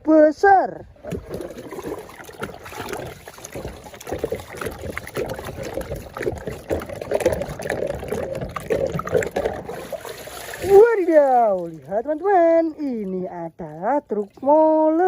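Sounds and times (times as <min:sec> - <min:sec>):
water sloshing and splashing: 0:00.7 - 0:15.0.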